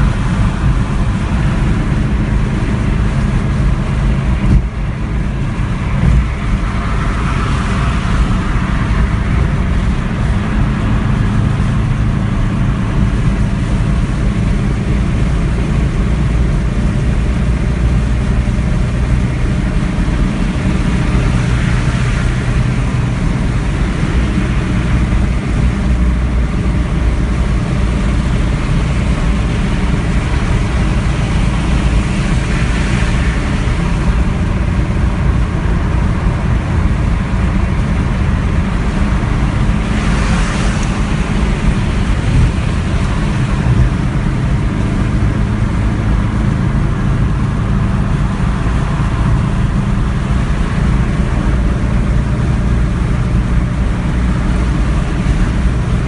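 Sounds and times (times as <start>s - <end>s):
car engine droning: 0.0s - 56.0s
loud rushing noise: 0.0s - 56.0s
road and wind noise: 0.0s - 56.0s.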